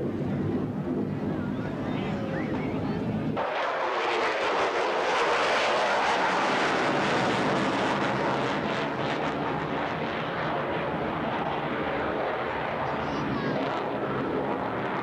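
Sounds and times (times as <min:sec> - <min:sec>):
airplane flying past: 0:00.0 - 0:15.0.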